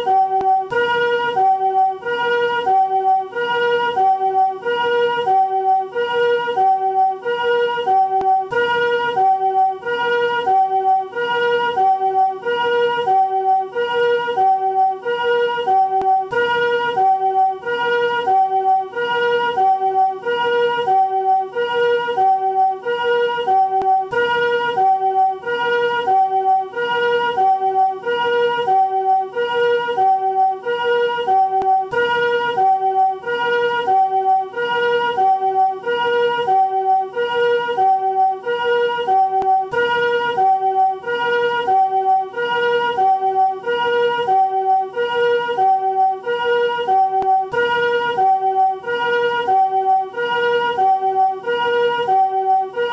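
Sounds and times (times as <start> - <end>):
ambulance two-note chord siren: 0.0 - 52.9.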